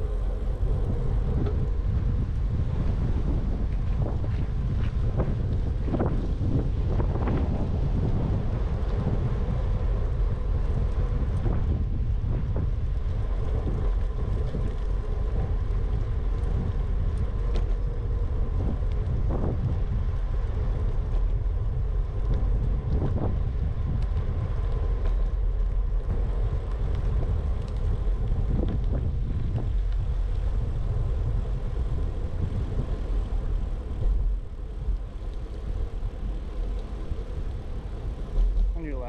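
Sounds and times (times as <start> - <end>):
wind rumbling on microphone: 0.0 - 39.0.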